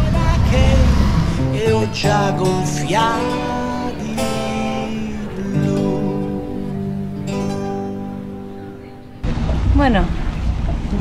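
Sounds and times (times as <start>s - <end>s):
acoustic guitar chords: 0.0s - 10.3s.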